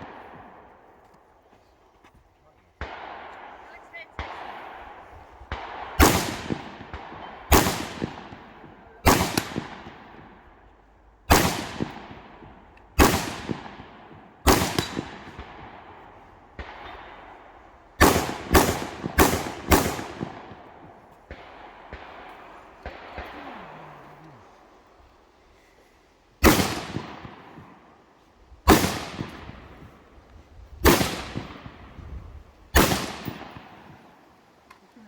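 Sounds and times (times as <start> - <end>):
rifle shots echoing: 0.0 - 1.4, 2.6 - 24.9, 26.4 - 34.5.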